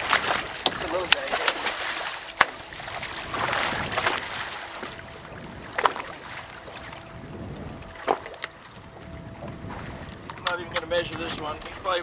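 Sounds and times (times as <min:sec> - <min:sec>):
sea noise: 0:00.0 - 0:12.0
water splashing: 0:00.0 - 0:12.0
wind: 0:00.0 - 0:12.0.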